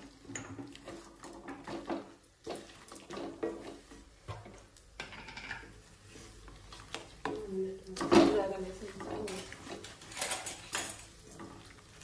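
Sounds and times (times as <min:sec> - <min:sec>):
wooden spatula scraping a pan: 0:00.0 - 0:04.7, 0:05.6 - 0:12.0.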